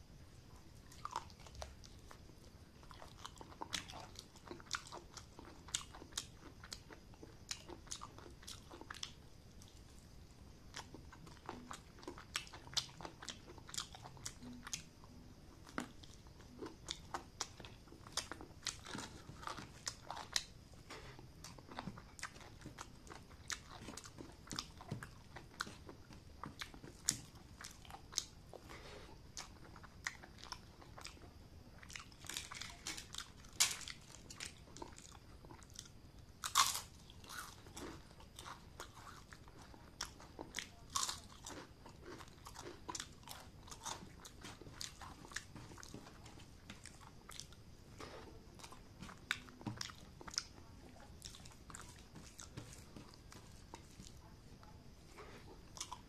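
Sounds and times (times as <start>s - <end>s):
person chewing: 0.6s - 56.0s.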